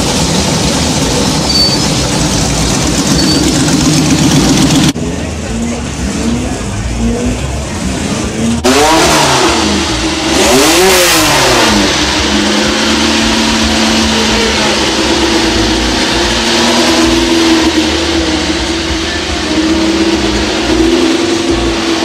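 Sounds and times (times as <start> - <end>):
racing car engine revving and idling: 0.0 - 22.0.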